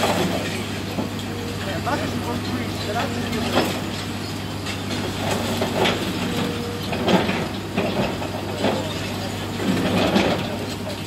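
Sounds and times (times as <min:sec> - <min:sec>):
excavator diesel engine drone: 0:00.0 - 0:11.0.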